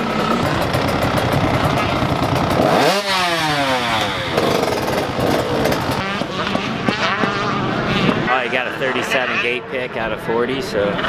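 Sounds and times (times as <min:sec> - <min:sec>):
dirt bike engine revving: 0:00.0 - 0:10.0
other bike engines running: 0:00.0 - 0:11.0.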